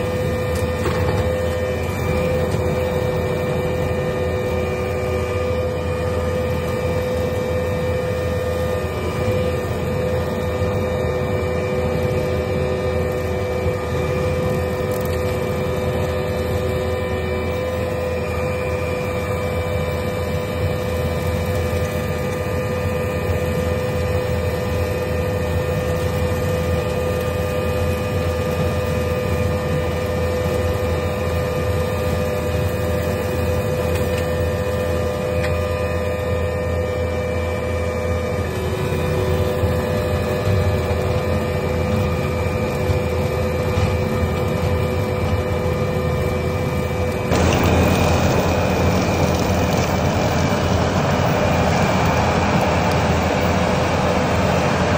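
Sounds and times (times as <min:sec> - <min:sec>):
brush cutter whine: 0:00.0 - 0:54.9
skid steer engine drone: 0:00.0 - 0:54.9.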